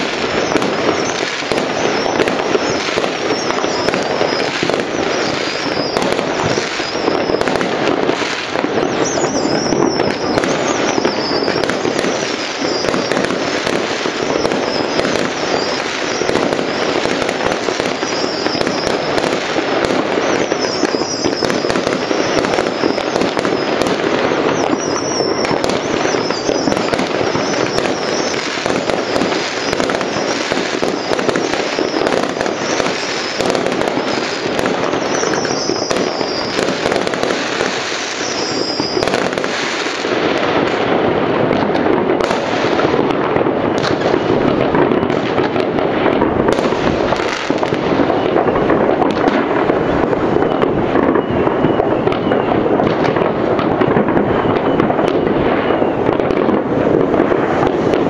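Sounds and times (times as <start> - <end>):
fireworks and firecrackers crackling: 0.0 - 58.0.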